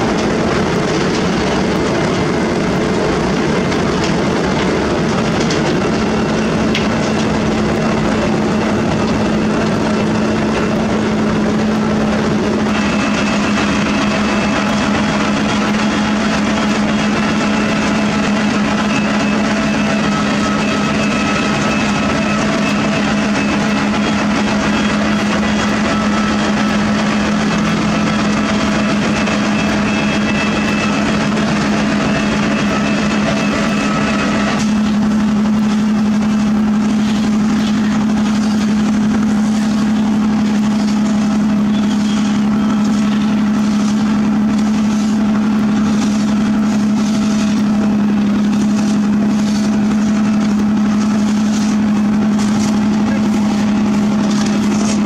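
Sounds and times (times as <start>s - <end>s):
milling machine cutting asphalt: 0.0s - 55.0s.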